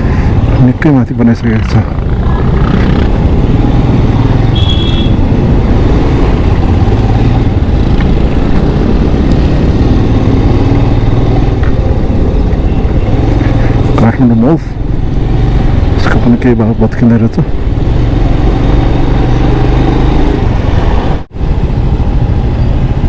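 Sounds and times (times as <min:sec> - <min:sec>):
motorbike road noise: 0:00.0 - 0:23.0.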